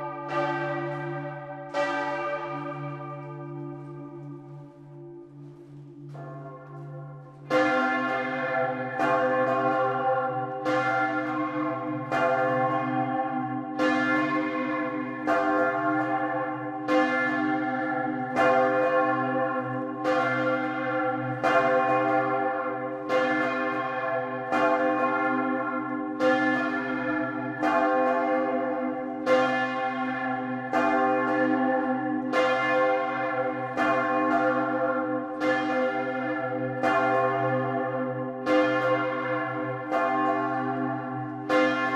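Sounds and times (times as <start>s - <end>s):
large church bells ringing: 0.0s - 41.9s.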